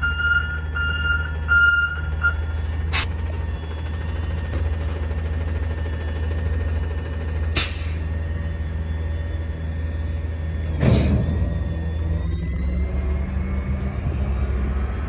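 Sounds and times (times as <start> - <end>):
garbage truck diesel engine idling: 0.0 - 13.2.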